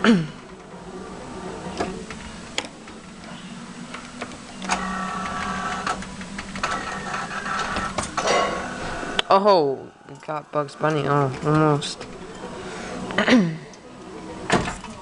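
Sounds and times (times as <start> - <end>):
motor hum with falling whine: 0.0 - 15.0.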